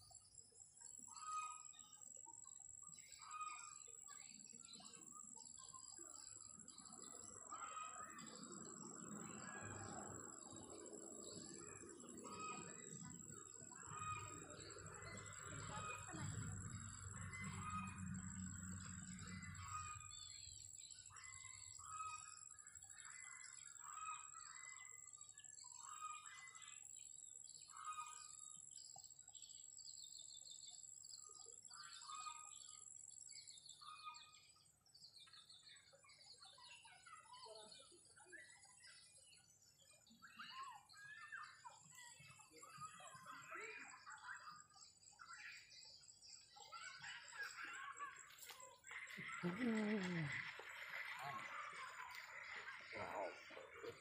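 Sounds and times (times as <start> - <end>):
faint birdsong chirps: 0.0 - 54.0.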